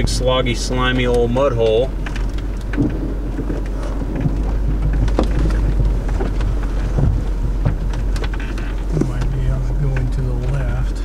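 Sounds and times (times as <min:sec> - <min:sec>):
rain ticking on windshield and roof: 0:00.0 - 0:11.0
vehicle low rumble: 0:00.0 - 0:11.0.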